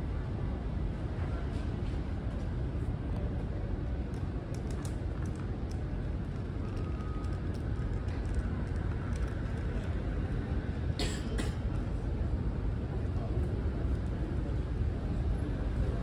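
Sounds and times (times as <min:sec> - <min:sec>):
low rumble of background noise: 0:00.0 - 0:16.0.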